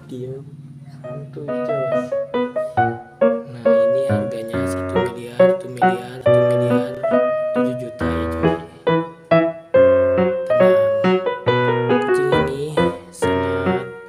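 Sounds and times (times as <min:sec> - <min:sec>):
piano music: 0:00.9 - 0:14.0.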